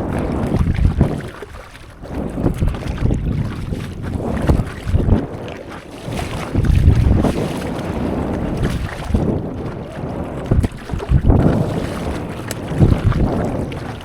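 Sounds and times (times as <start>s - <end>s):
sea water splashing: 0.0s - 14.0s
wind rumbling on microphone: 0.0s - 14.0s.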